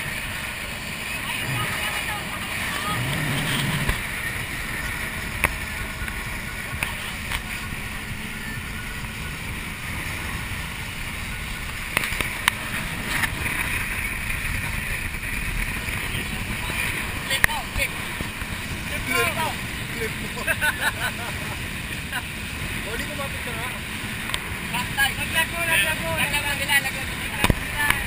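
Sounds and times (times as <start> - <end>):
speedboat engine and water rush: 0.0 - 28.0.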